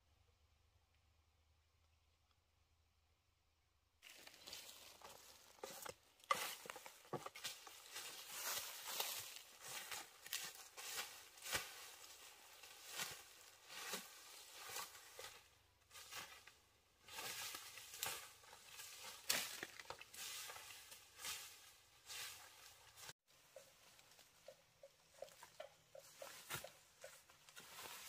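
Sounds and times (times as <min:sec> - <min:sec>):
crackling and rustling: 0:04.0 - 0:28.0.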